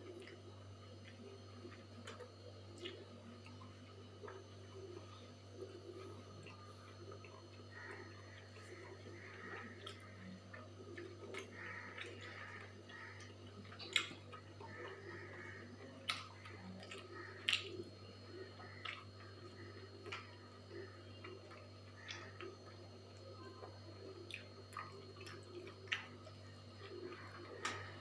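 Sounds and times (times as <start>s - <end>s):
person chewing: 0.0s - 5.0s, 5.8s - 22.8s, 23.4s - 28.0s.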